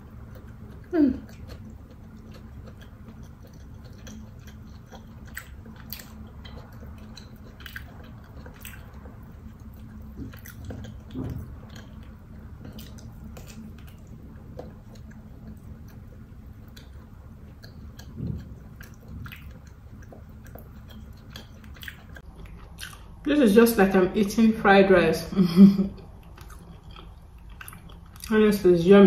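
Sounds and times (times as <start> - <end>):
person chewing and biting: 0.0 - 23.2, 26.0 - 28.3.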